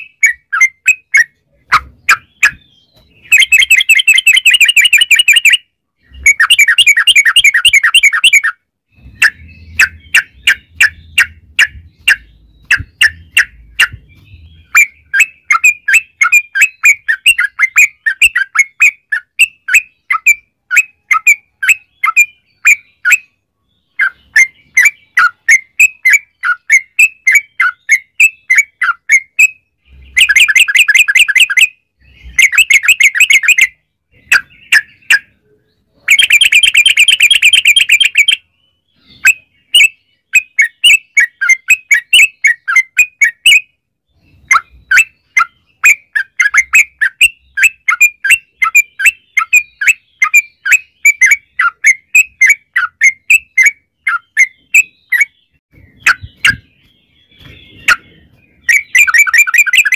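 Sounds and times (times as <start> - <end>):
bird chirping notes: 0.0 - 59.9.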